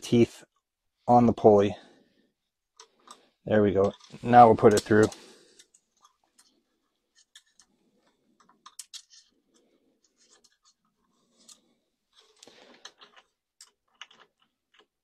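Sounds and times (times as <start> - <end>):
scraping and clicks of belt handling: 2.7 - 15.0.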